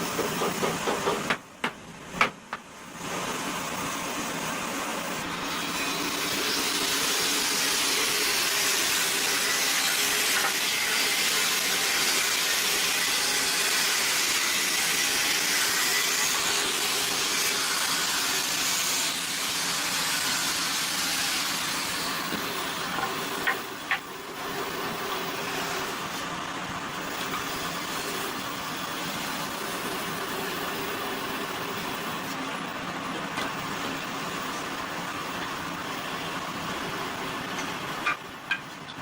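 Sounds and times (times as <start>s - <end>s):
woodworking power tool running: 3.1s - 38.7s.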